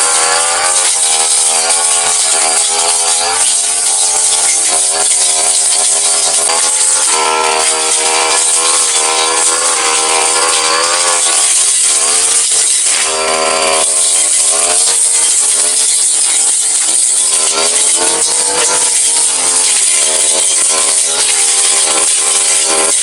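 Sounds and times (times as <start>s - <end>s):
brush cutter engine running: 0.0s - 23.0s.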